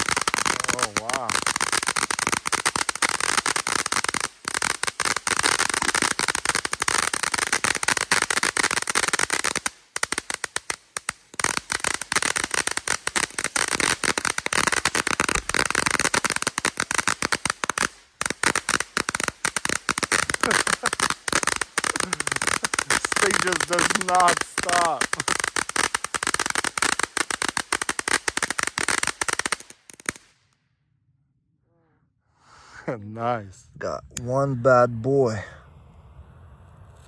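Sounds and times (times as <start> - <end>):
firework fountain crackling: 0.0 - 30.5.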